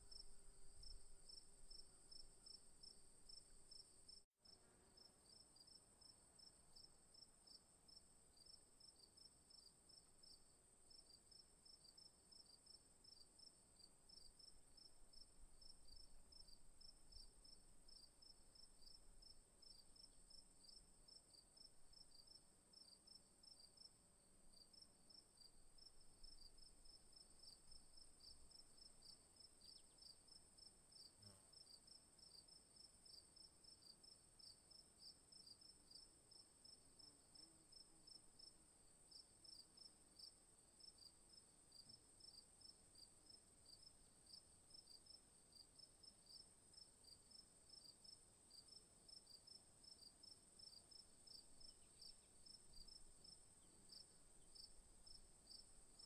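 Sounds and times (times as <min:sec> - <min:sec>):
crickets chirping: 0:00.0 - 0:04.2, 0:05.0 - 0:56.0.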